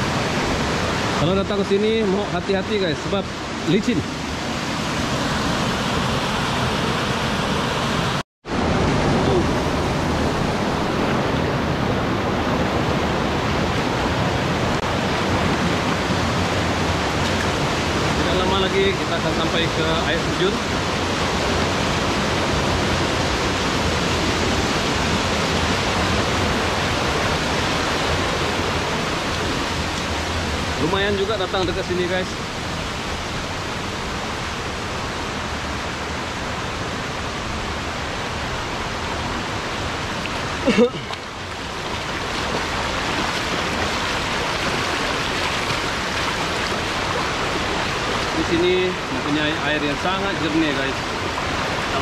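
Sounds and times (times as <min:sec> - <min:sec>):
river rushing over its bed: 0:00.0 - 0:52.0.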